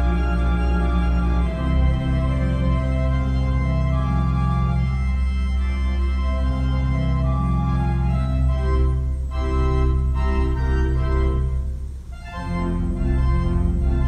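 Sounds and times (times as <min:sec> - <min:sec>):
player organ chords: 0:00.0 - 0:14.0.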